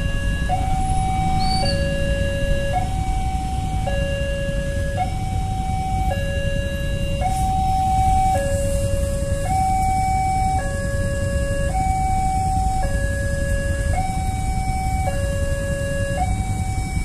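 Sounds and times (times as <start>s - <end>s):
idling road traffic rumble: 0.0s - 17.0s
two-tone level crossing alarm: 0.0s - 17.0s.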